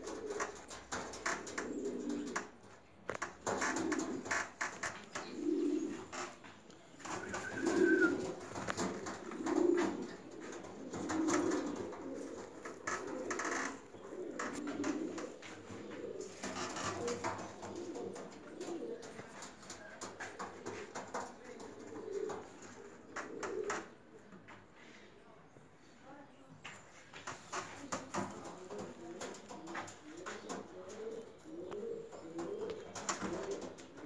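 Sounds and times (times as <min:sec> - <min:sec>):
pigeons cooing: 0:00.0 - 0:24.0, 0:27.9 - 0:34.0.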